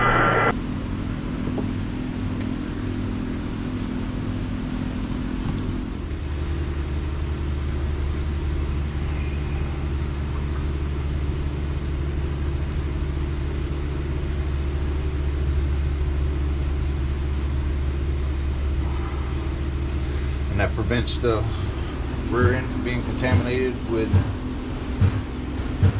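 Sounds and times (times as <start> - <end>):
engine running with low hum: 0.0 - 25.9.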